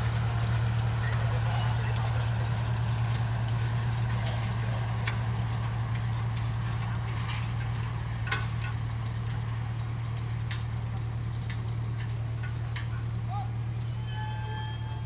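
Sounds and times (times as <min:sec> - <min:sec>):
diesel engine idling: 0:00.0 - 0:14.1.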